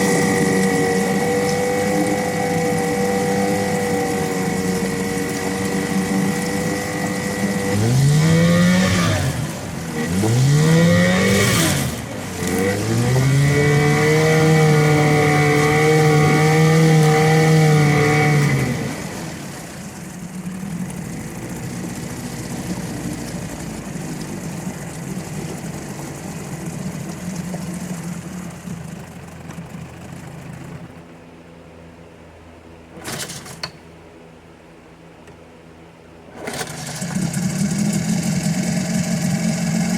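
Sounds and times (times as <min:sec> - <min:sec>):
outboard motor revving: 0:00.0 - 0:32.0, 0:32.8 - 0:33.9, 0:36.2 - 0:39.9.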